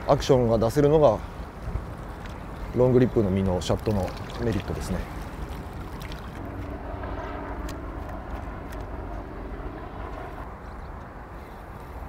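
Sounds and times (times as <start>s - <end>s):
distant engine drone: 0.0s - 12.0s
outdoor rumble: 1.2s - 11.5s.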